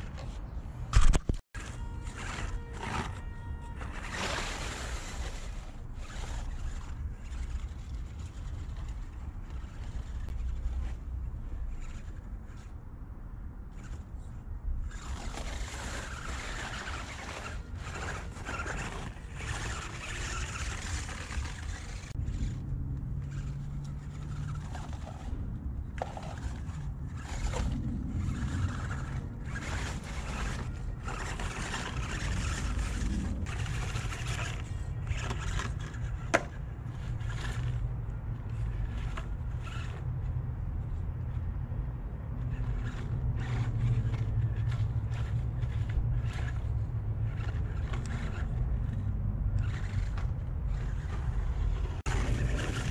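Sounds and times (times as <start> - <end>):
scraping and rustling leaves: 0.0 - 12.8, 13.7 - 52.9
toy car motor rumble: 1.6 - 12.8, 13.7 - 41.0, 42.4 - 52.9.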